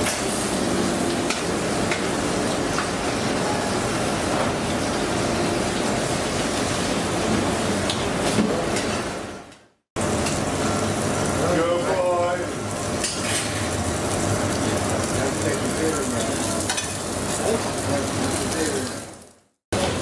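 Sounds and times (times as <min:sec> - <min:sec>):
commercial kitchen background noise: 0:00.0 - 0:20.0.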